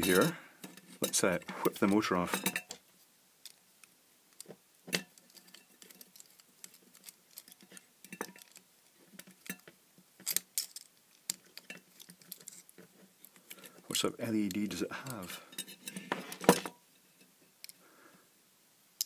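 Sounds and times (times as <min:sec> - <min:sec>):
faint clicks and metallic ticks: 0:00.0 - 0:17.9.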